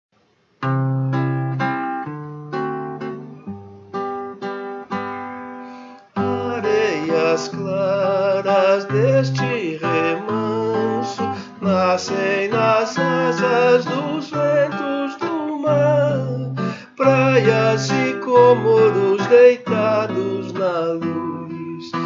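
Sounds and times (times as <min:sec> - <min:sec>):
acoustic guitar plucked chords: 0:00.6 - 0:22.0.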